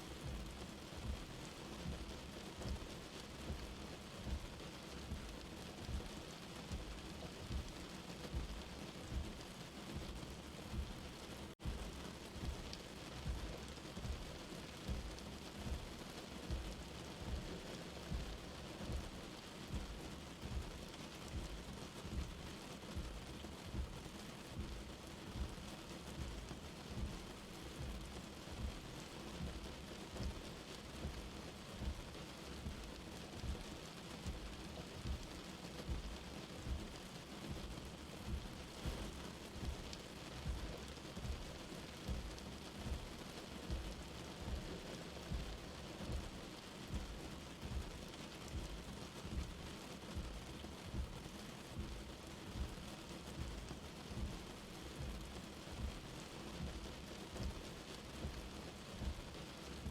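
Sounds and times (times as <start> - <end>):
light rain falling: 0.0 - 59.9
soft low thuds: 3.5 - 20.7, 21.3 - 24.0, 24.6 - 28.8, 34.3 - 59.2.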